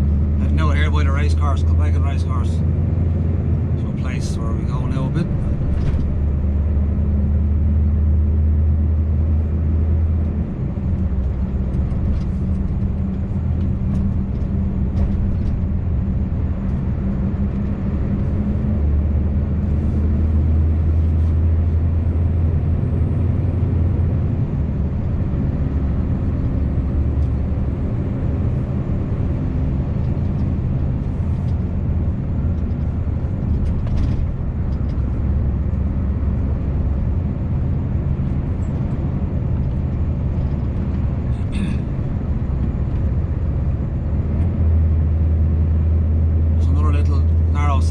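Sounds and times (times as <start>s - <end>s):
truck engine droning: 0.0s - 47.9s
tyre and road noise: 0.0s - 47.9s.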